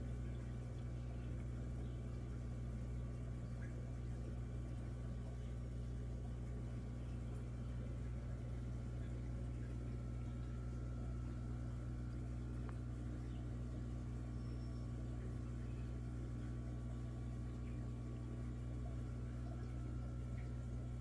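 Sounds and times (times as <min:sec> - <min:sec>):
aquarium pump humming: 0:00.0 - 0:21.0.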